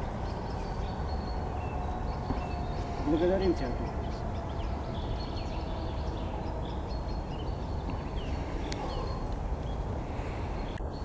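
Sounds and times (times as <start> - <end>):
high bird chirps: 0.0 - 9.9
steady low rumble: 0.0 - 11.0.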